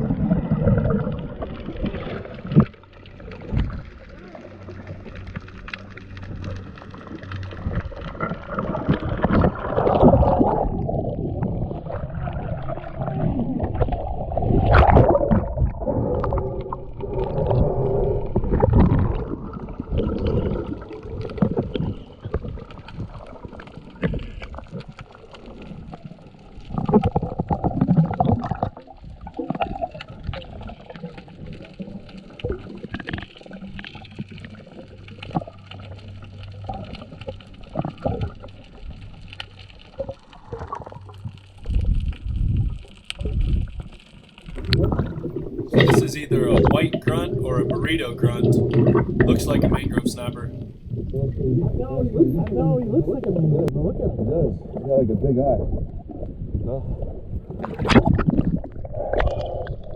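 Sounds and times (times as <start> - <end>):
muffled water gurgling: 0.0 - 59.9.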